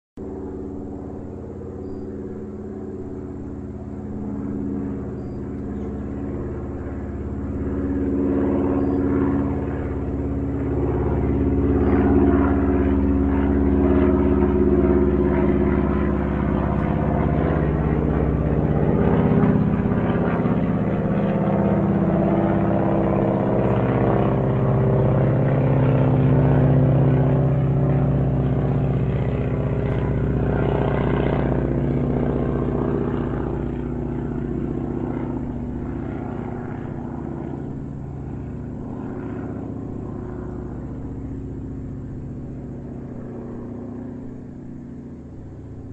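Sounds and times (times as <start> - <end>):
airplane engine droning: 0.2 - 45.9.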